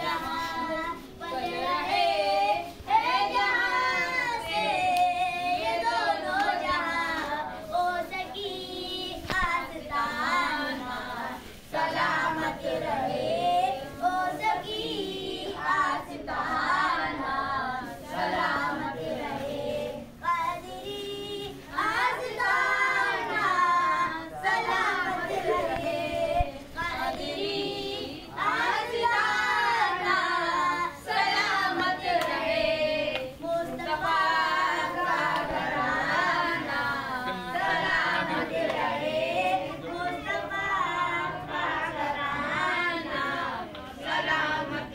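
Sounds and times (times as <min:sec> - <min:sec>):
boy singing: 0:00.0 - 0:38.4, 0:39.3 - 0:44.9.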